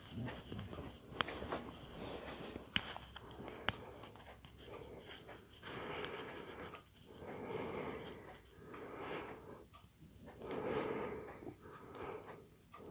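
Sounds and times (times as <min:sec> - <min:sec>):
person breathing noisily: 0:00.0 - 0:12.9.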